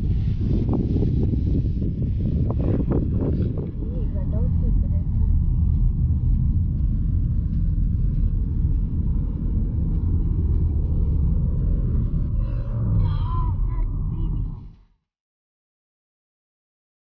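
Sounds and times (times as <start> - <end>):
car road and engine rumble: 0.0 - 14.8.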